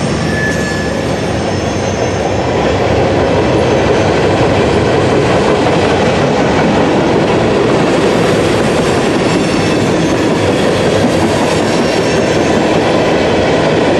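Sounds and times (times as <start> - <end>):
freight train rumbling and rattling: 0.0 - 13.9.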